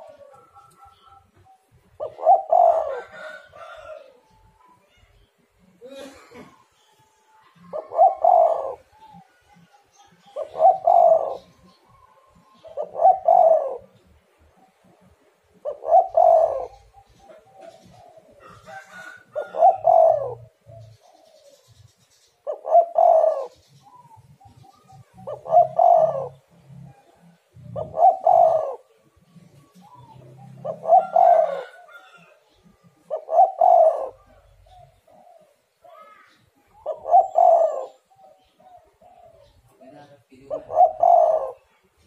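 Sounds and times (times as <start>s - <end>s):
dove cooing: 0.0s - 5.0s, 5.8s - 42.0s.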